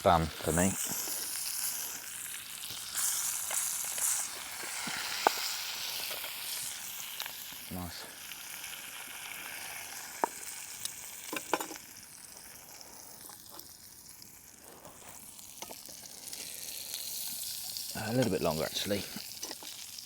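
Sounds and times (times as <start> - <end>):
steak sizzling in a pan: 0.0 - 20.0.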